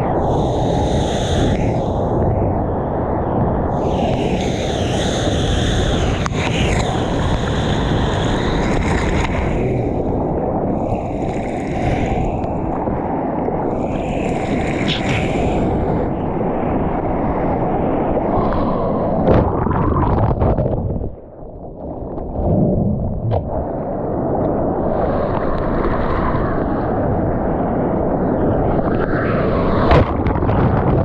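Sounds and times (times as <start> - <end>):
low rumble of wind and water: 0.0 - 31.0
seawater rushing and splashing: 0.0 - 31.0
wave whitewater washing over: 0.0 - 31.0.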